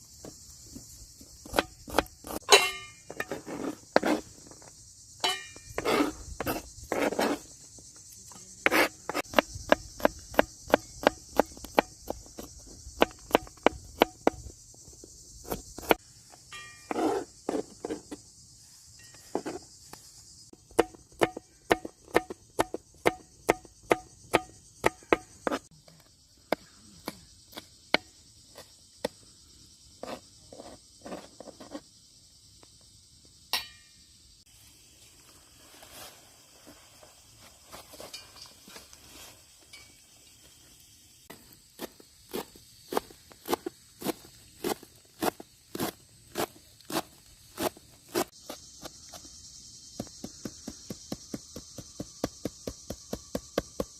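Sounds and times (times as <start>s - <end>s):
high chirring hiss: 0.0s - 20.7s, 22.8s - 53.9s.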